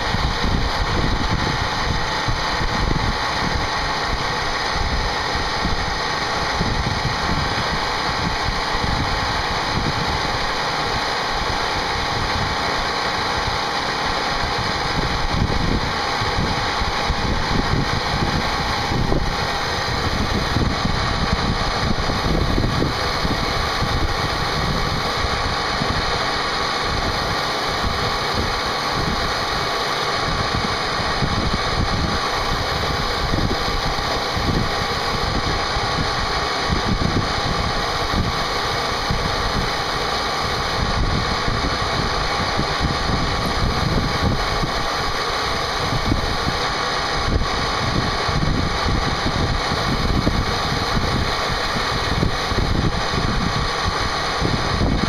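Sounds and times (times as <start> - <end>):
machine spindle cutting whine: 0.0 - 55.0.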